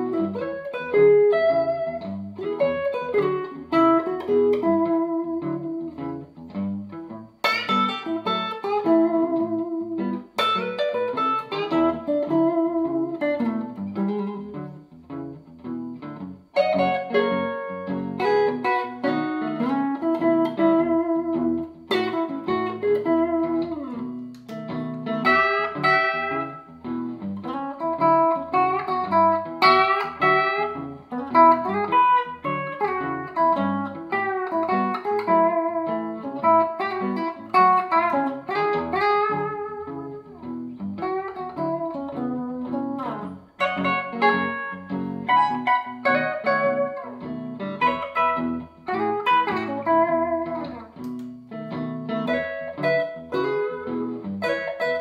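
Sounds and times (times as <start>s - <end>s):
clean electric guitar blues: 0.0s - 55.0s.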